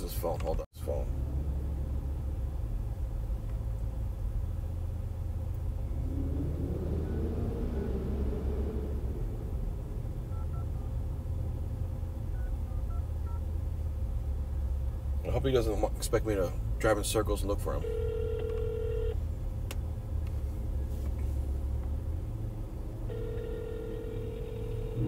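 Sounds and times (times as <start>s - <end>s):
car engine rumble: 0.0s - 25.0s
faint steady hum: 0.0s - 25.0s.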